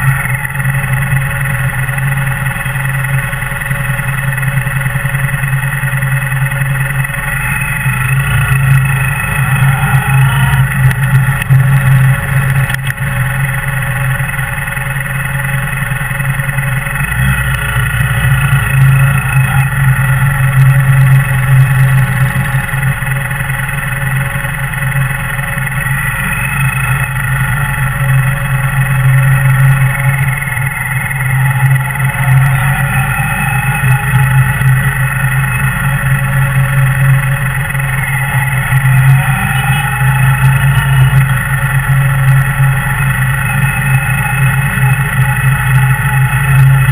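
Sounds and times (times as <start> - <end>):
motorcycle engine at low revs: 0.0 - 46.9.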